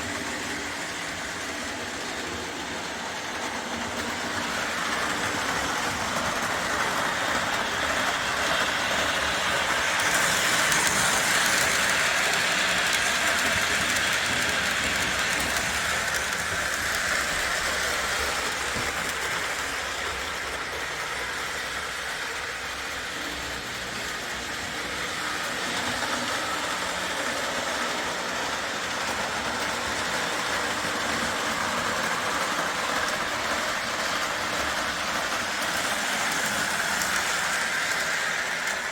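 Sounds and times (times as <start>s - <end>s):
toy train motor whir: 0.0s - 38.9s
toy train rolling rattle: 0.0s - 38.9s.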